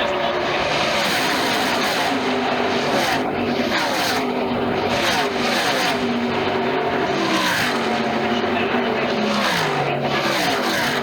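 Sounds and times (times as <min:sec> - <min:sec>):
race truck engines passing: 0:00.0 - 0:11.0.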